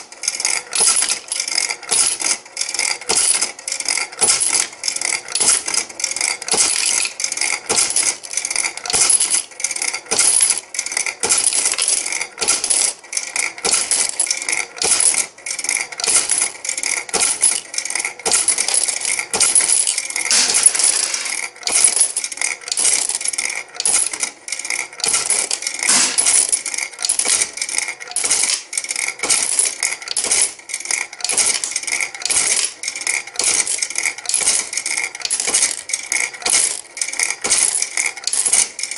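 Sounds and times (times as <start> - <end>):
coins clattering into metal tray: 0.0 - 38.9.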